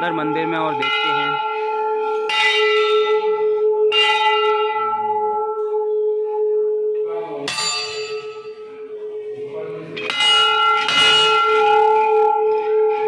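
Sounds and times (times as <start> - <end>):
metal temple bell ringing: 0.0 - 13.0.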